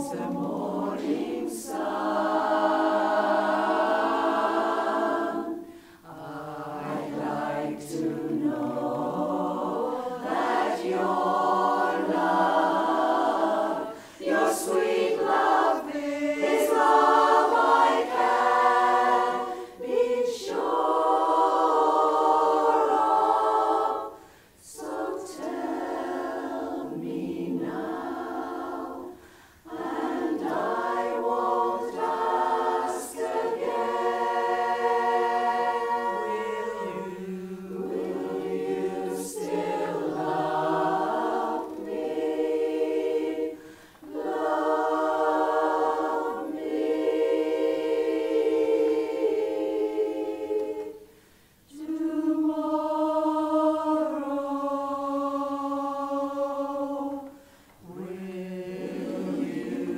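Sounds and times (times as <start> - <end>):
women's chorus singing a cappella: 0.0 - 59.9.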